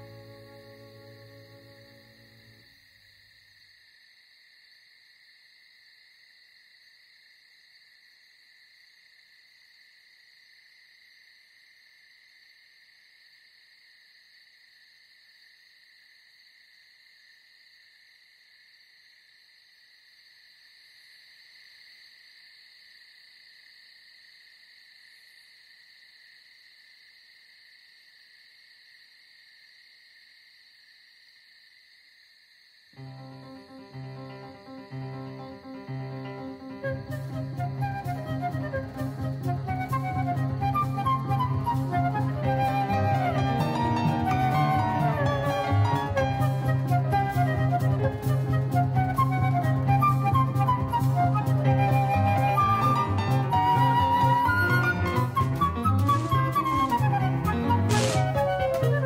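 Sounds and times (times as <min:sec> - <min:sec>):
night insects chirping: 0:00.0 - 0:59.0.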